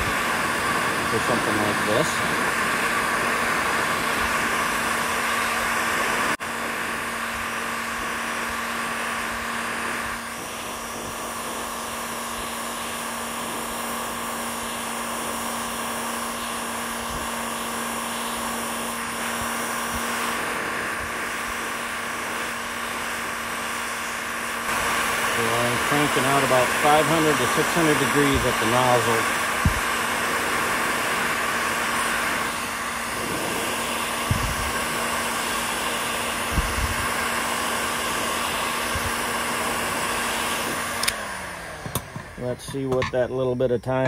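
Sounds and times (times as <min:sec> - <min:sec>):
heat gun fan whirring: 0:00.0 - 0:44.0.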